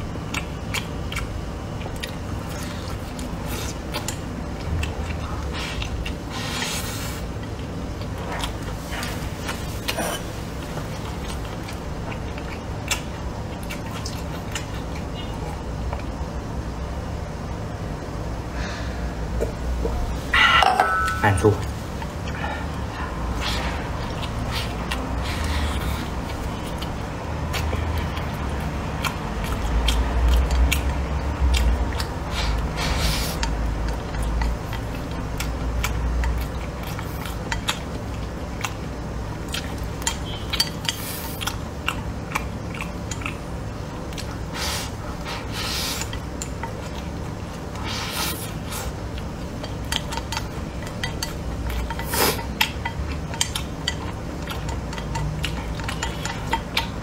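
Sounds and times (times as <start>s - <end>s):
chewing rice: 0.0s - 16.7s, 21.4s - 57.0s.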